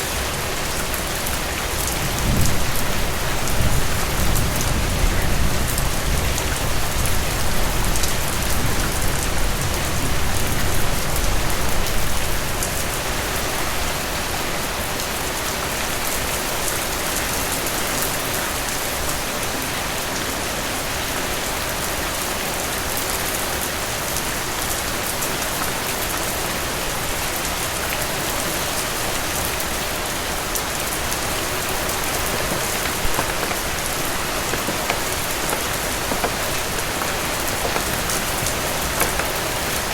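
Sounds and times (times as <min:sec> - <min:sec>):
heavy rain drumming on a roof: 0:00.0 - 0:39.9.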